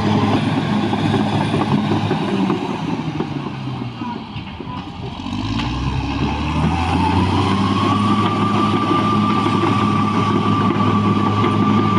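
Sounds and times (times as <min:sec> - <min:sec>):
bulldozer diesel engine revving: 0:00.0 - 0:03.9, 0:04.9 - 0:11.9.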